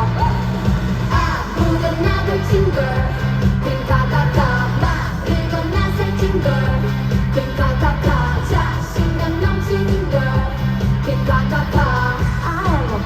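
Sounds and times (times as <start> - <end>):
heavy bass beat: 0.0 - 13.0
person singing: 0.0 - 13.0.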